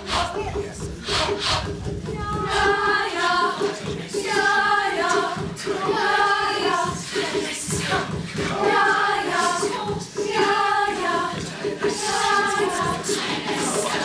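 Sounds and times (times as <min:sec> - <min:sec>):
chorus singing in unison: 0:00.0 - 0:14.0.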